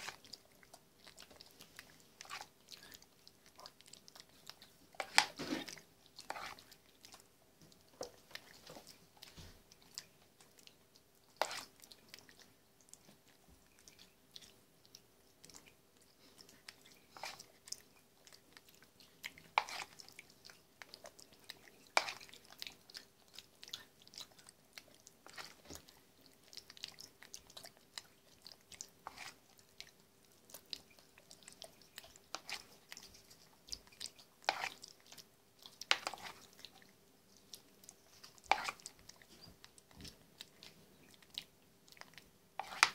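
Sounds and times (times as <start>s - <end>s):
monkey chewing: 0.0s - 42.9s.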